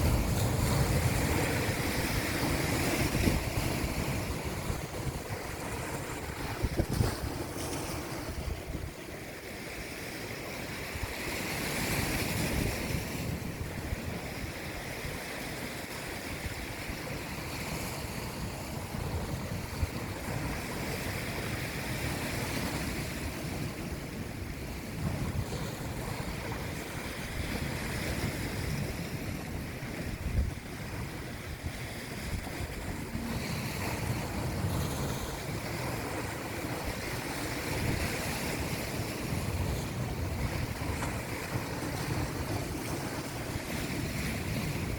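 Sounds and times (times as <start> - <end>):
sea waves washing in: 0.0 - 44.9
wind buffeting microphone: 0.0 - 44.9.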